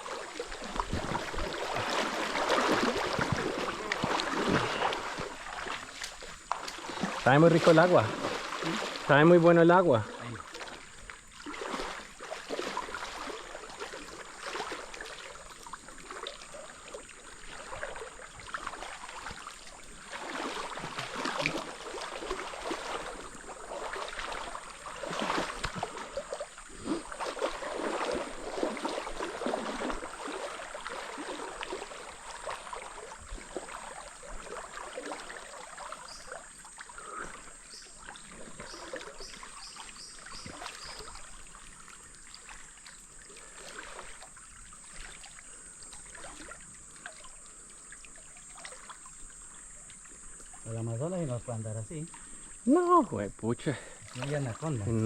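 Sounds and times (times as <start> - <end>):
river water rushing and splashing: 0.0 - 50.8.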